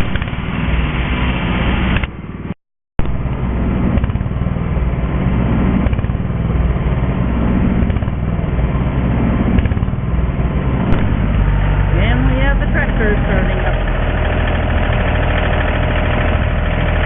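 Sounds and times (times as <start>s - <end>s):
tractor engine running: 3.0s - 17.0s.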